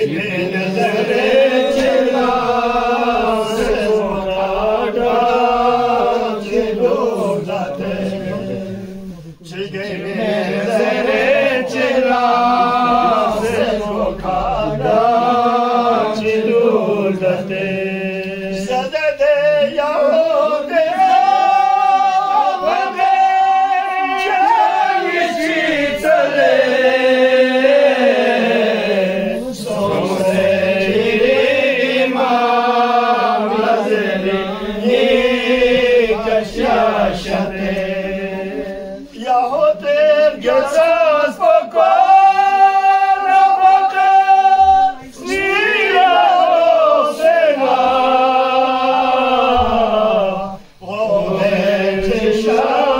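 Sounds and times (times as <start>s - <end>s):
group of men chanting: 0.0s - 52.9s.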